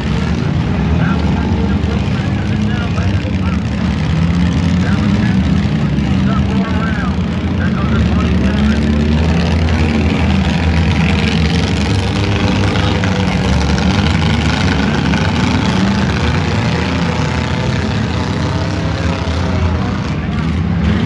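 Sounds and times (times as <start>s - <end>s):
car engines running loudly: 0.0s - 21.0s.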